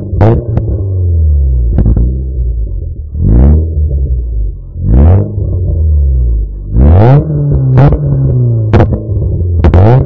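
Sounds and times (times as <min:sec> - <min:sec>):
car engine revving and idling: 0:00.0 - 0:10.0.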